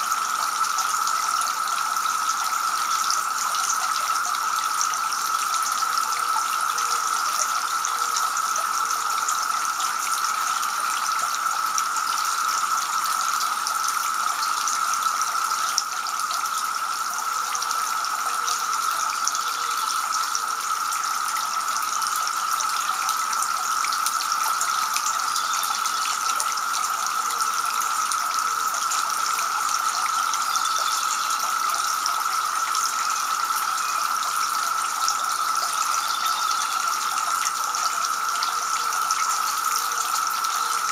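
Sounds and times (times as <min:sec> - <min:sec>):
fountain water trickling and splashing: 0:00.0 - 0:40.9.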